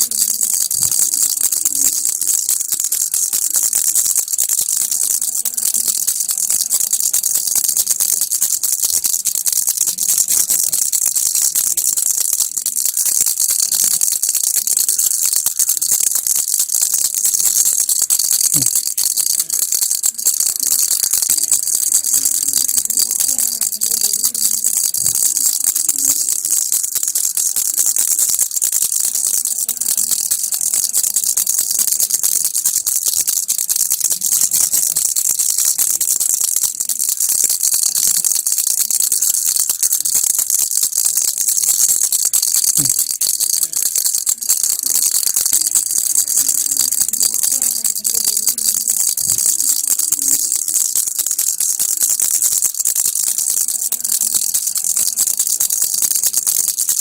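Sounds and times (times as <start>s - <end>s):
baby rattle shaken: 0.0s - 57.0s.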